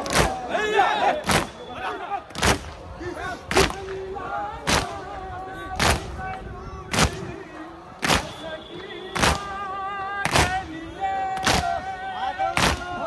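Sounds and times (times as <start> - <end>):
voices chanting: 0.0 - 13.0.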